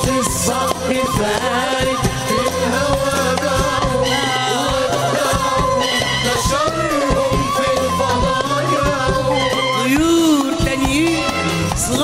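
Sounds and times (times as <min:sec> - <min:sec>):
drum kit: 0:00.0 - 0:12.0
live band playing melody: 0:00.0 - 0:12.0.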